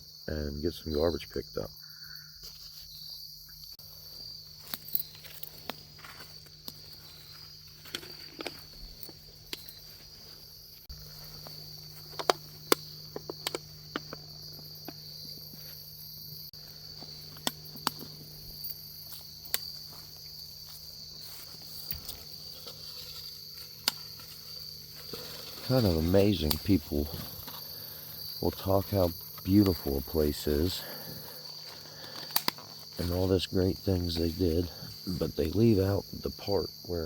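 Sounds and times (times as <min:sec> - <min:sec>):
crickets chirping: 0:00.0 - 0:37.0
footsteps crunching: 0:02.4 - 0:36.8.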